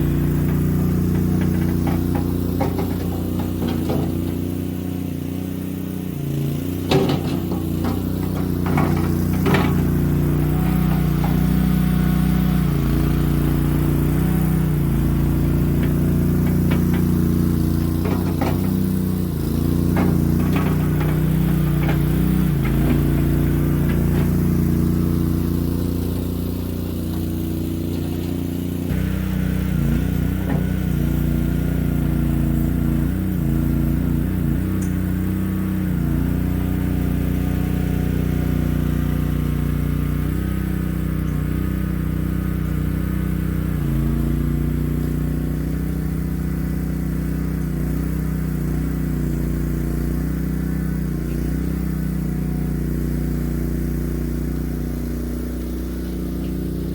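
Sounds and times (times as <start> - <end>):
skid steer engine running: 0.0 - 56.9.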